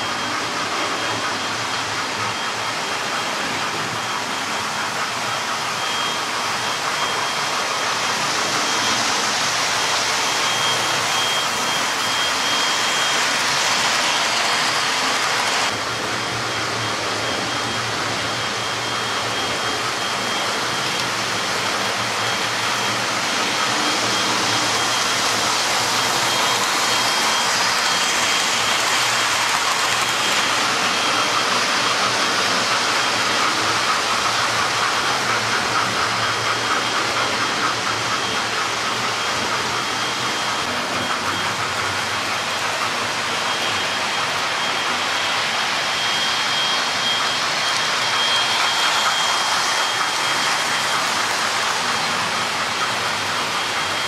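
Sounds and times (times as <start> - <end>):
high electric motor whine: 0.0 - 54.0
model train wheels whirring on rails: 0.0 - 54.0.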